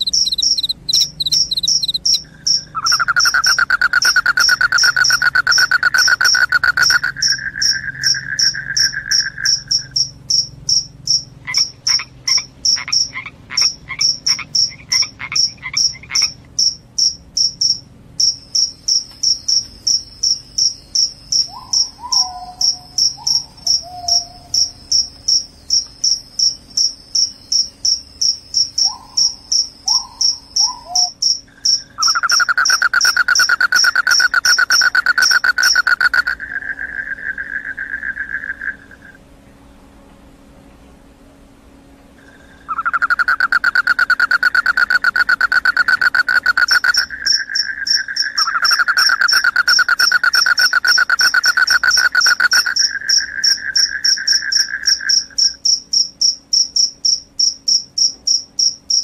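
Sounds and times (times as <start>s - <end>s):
crickets chirping: 0.0s - 39.6s, 42.1s - 59.0s
lower-pitched continuous trill: 0.0s - 59.0s.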